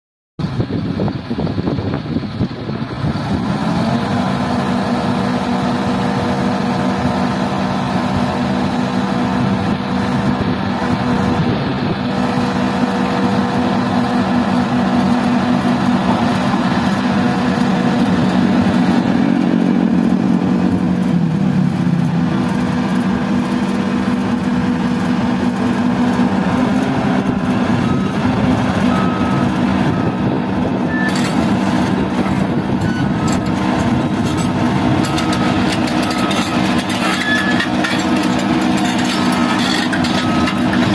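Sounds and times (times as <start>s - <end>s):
excavator diesel engine running: 0.4s - 40.9s.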